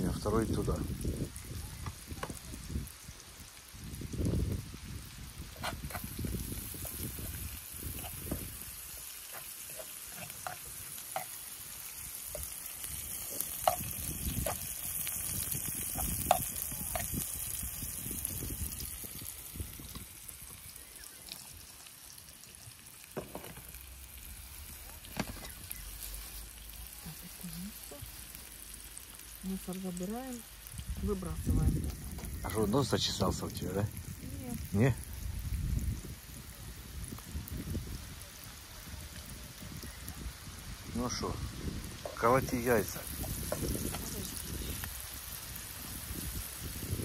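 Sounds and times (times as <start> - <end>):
food sizzling in a frying pan: 0.0 - 47.0.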